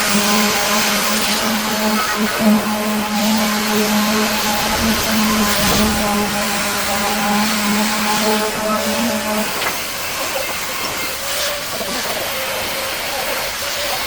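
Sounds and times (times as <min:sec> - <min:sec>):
loud continuous hiss: 0:00.0 - 0:14.0
machine hum: 0:00.0 - 0:14.0.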